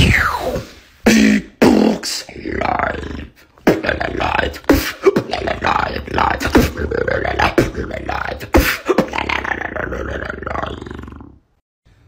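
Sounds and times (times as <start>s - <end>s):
man beatboxing: 0.0s - 11.2s.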